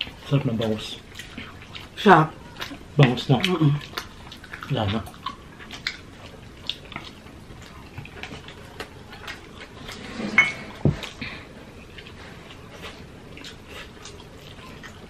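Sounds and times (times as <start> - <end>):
chewing and mouth clicks: 0.0 - 10.0, 11.0 - 15.0.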